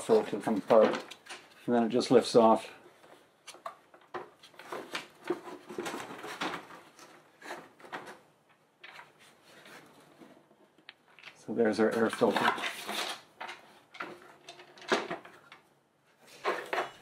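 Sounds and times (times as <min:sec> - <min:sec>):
plastic parts clicking and scraping: 0:00.0 - 0:01.8, 0:03.0 - 0:17.0.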